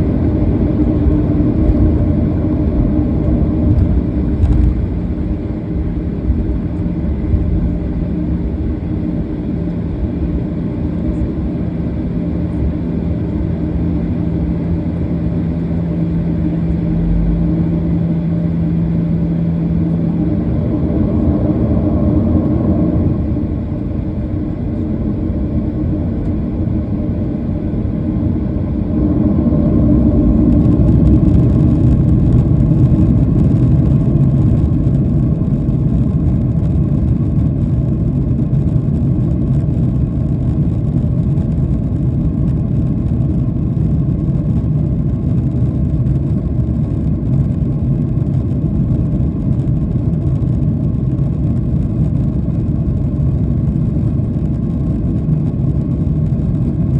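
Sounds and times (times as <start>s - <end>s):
jet engines rumbling in cabin: 0.0s - 56.9s.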